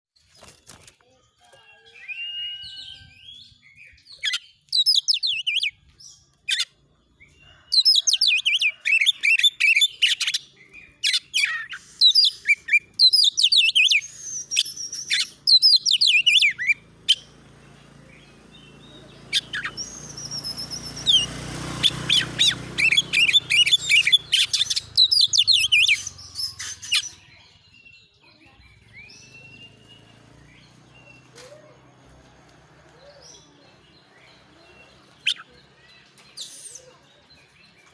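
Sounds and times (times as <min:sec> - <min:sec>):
bird singing trilling song: 0:00.2 - 0:32.2, 0:32.8 - 0:37.9.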